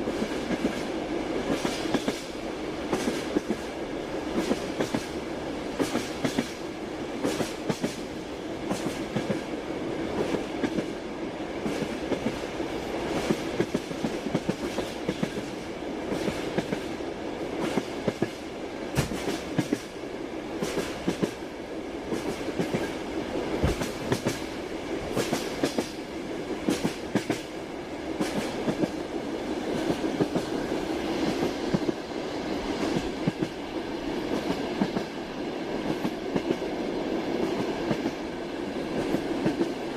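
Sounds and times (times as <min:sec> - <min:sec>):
clickety-clack of rail joints: 0:00.0 - 0:39.9
train wheels rolling on rails: 0:00.0 - 0:39.9.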